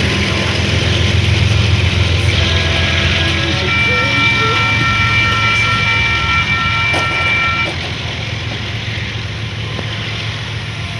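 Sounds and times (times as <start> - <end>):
railroad crossing bells ringing: 0.0 - 10.9.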